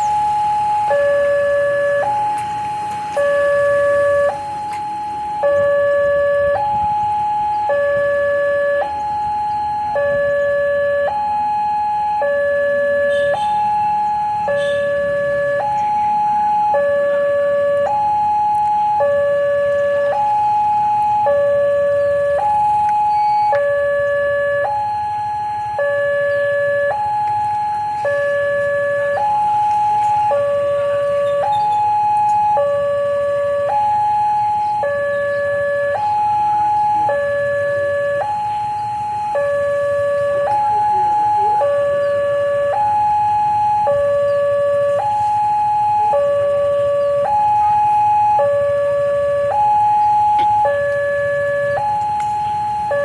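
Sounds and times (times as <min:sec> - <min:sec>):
level crossing two-tone alarm: 0:00.0 - 0:53.0.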